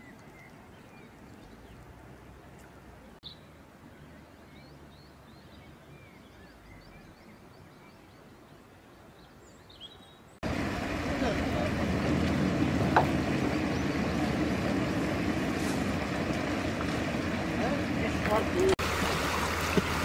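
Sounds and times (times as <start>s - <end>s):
songbird chirps: 0.0s - 18.8s.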